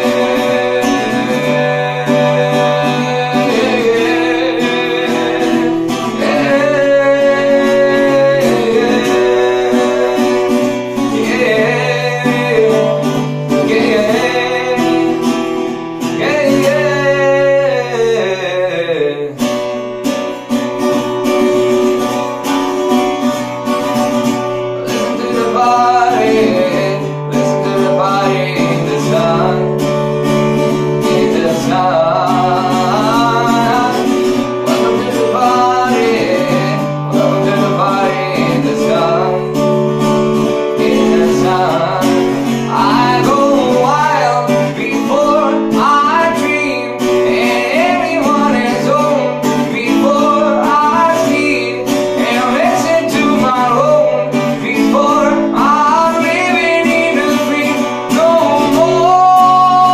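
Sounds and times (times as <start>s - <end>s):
person singing: 0.0s - 20.4s, 21.2s - 59.9s
acoustic guitar strumming: 0.0s - 59.9s.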